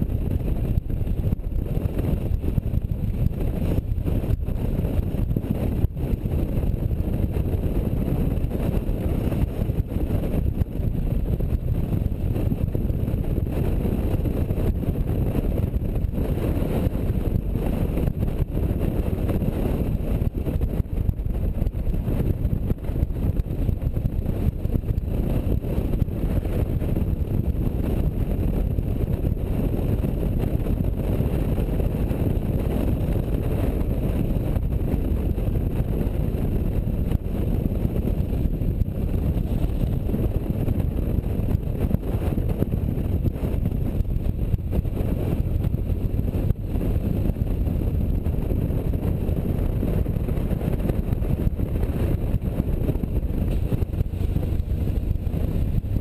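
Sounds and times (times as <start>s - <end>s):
motorcycle engine drone: 0.0s - 56.0s
wind rushing on microphone: 0.0s - 56.0s.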